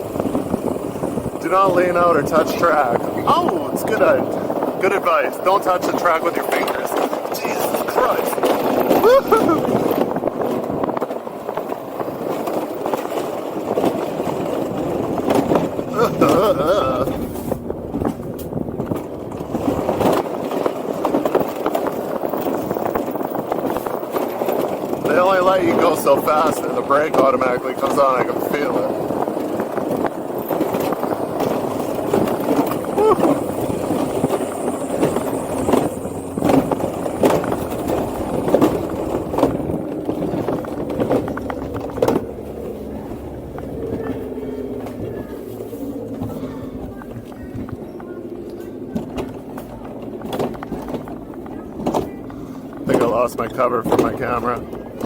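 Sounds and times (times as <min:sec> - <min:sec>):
coaster wheels rattling on track: 0:00.0 - 0:55.0.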